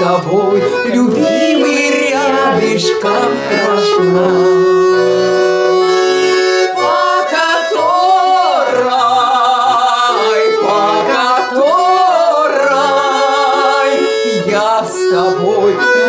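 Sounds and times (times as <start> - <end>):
woman singing folk song: 0.0 - 4.7, 7.3 - 16.0
accordion chords: 0.0 - 16.0.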